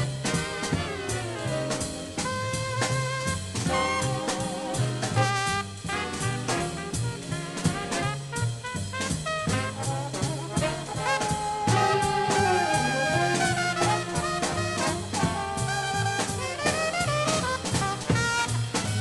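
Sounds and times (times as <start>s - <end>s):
drums keeping swing time: 0.0s - 19.0s
low bass line: 0.0s - 19.0s
trumpet solo: 0.0s - 19.0s.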